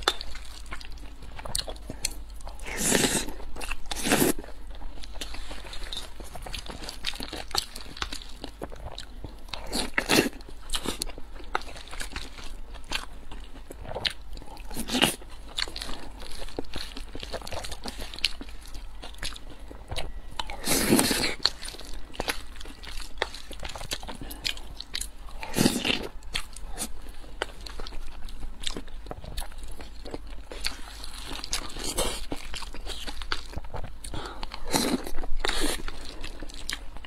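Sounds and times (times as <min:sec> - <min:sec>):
chewing with wet mouth clicks: 0:00.0 - 0:37.0.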